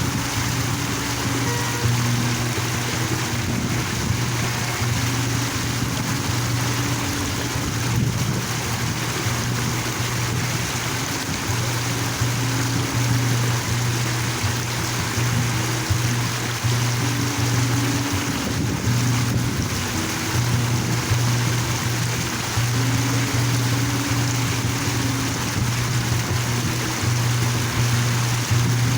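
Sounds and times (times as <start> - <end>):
water fountain splashing: 0.0 - 28.9.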